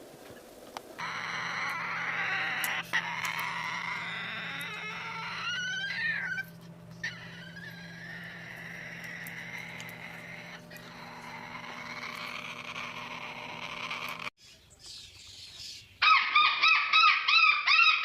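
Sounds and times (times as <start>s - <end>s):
parrot call: 1.0s - 14.3s, 16.0s - 18.0s.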